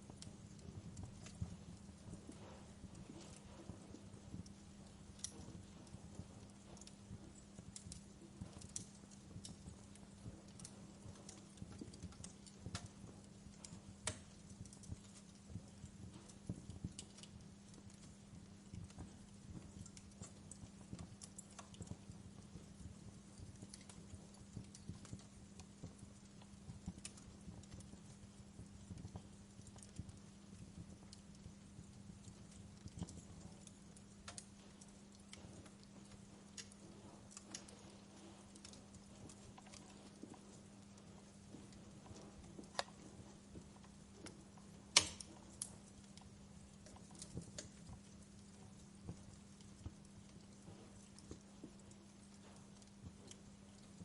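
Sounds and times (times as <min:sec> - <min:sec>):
steady low hum: 0:00.0 - 0:54.0
wood fire crackling and popping: 0:00.0 - 0:54.0.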